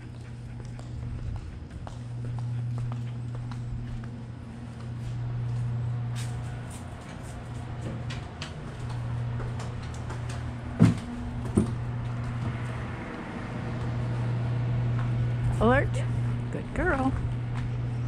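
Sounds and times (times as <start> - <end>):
light footsteps: 0.0 - 16.5, 17.1 - 18.0
low hum: 0.0 - 18.0.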